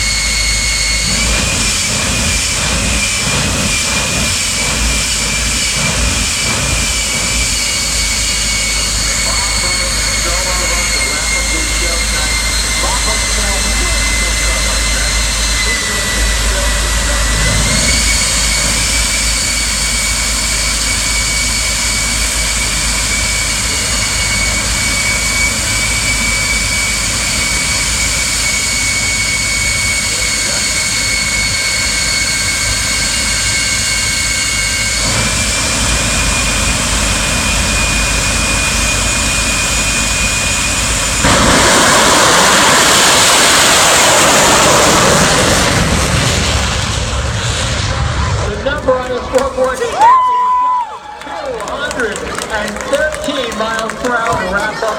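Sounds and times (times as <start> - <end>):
jet engine rushing noise: 0.0 - 54.9
jet engine turbine whine: 0.0 - 54.9.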